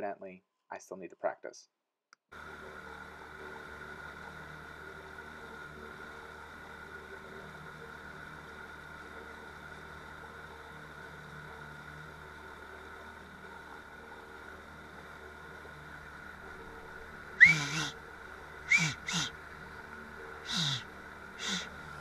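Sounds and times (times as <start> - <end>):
boat motor humming: 2.4 - 22.0.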